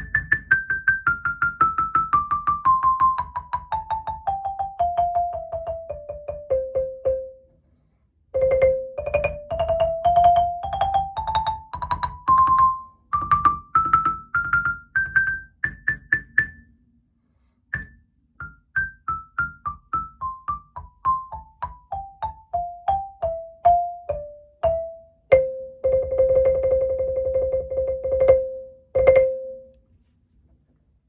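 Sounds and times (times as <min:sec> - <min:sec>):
xylophone bars struck with mallets: 0:00.0 - 0:07.4, 0:08.4 - 0:16.7, 0:17.7 - 0:29.7.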